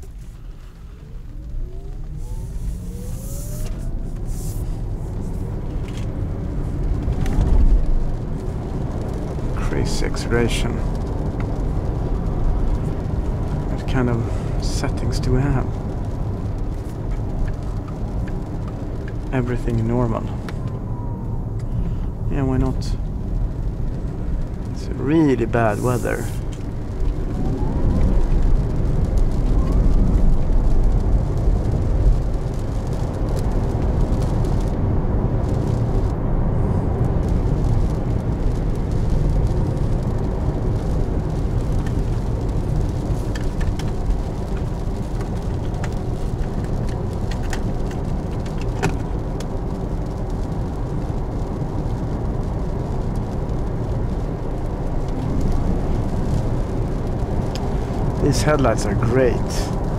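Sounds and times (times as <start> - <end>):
tyres rumbling on wet road: 0.0 - 59.9.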